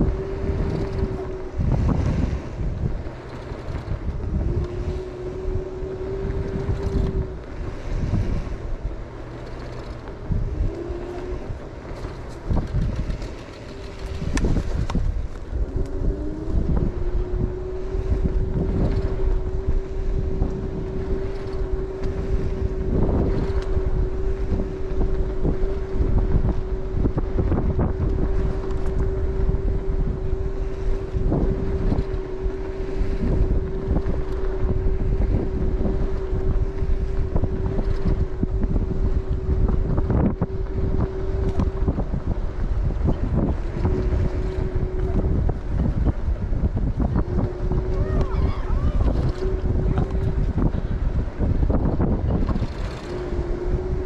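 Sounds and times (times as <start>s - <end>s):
electric scooter motor whine: 0.0s - 54.0s
wind buffeting microphone: 0.0s - 54.0s.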